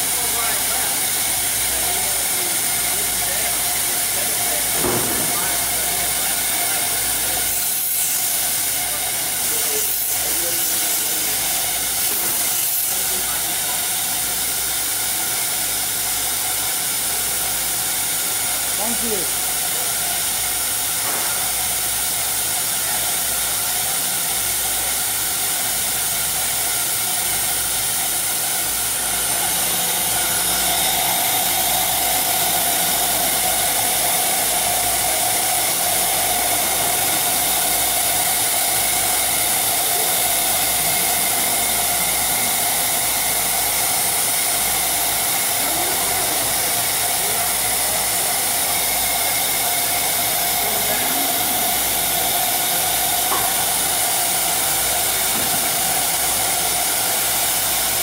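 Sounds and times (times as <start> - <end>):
cnc router whirring: 0.0 - 58.0.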